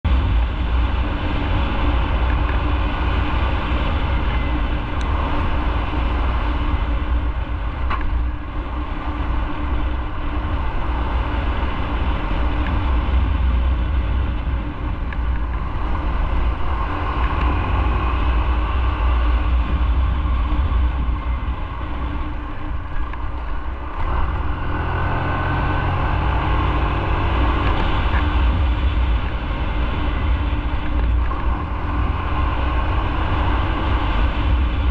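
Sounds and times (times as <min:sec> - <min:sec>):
motorcycle engine running: 0:00.0 - 0:34.9
wind rumble on microphone: 0:00.0 - 0:34.9.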